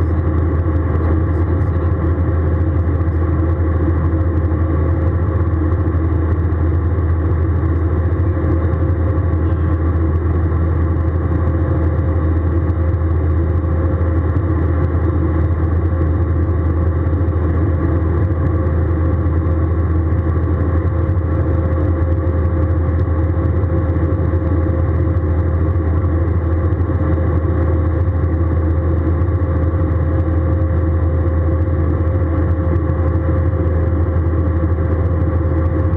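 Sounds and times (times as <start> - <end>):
airliner cabin drone: 0.0 - 35.9
thin steady whine: 0.0 - 35.9.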